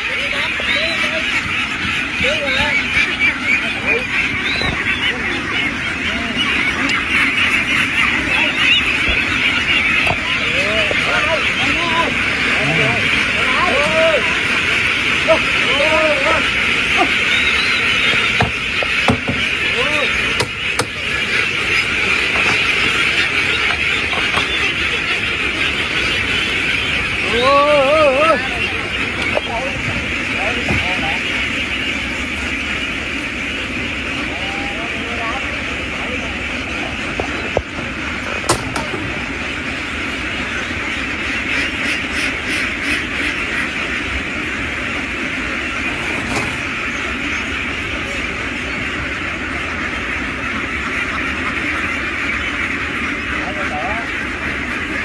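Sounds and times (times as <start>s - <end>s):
duck flock quacking: 0.0s - 55.0s.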